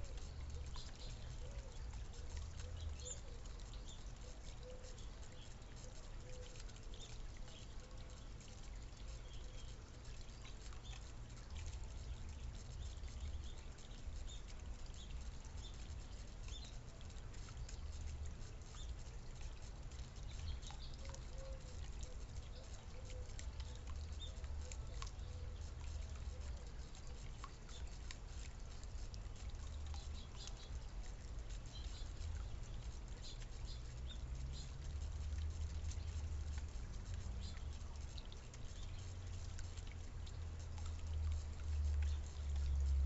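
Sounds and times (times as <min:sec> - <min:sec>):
birds pecking seed: 0:00.0 - 0:43.0.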